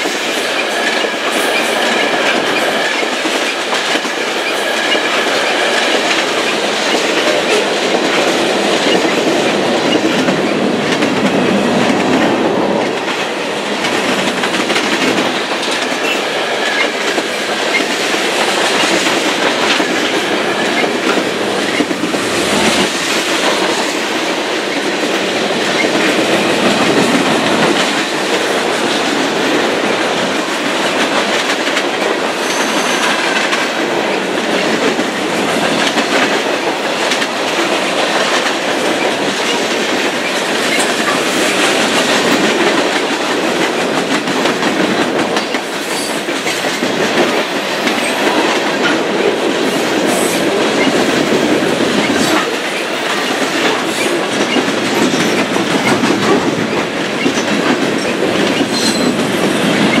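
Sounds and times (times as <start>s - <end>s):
train wheels rolling on rails: 0.0s - 60.0s.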